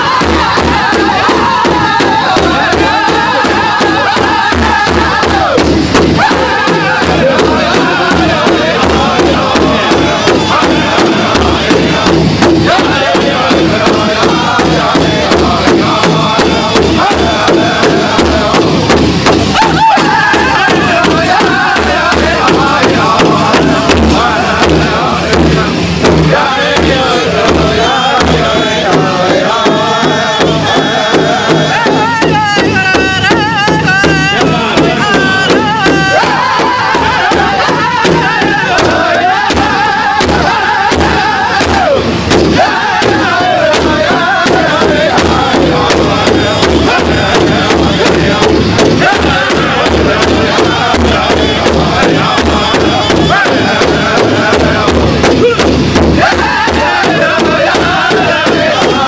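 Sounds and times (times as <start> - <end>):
large drum beating: 0.0 - 59.0
men singing loudly: 0.0 - 59.0.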